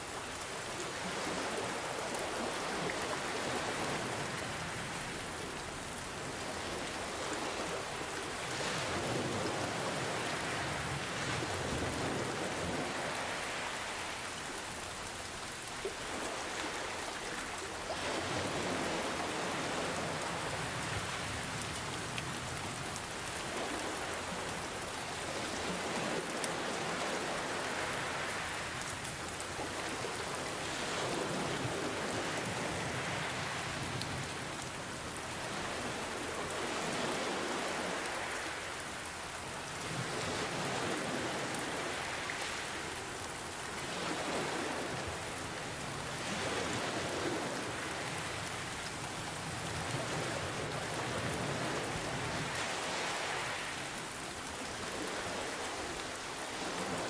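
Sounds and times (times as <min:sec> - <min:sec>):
ocean waves washing in: 0:00.0 - 0:57.0
steady rain: 0:00.0 - 0:57.0.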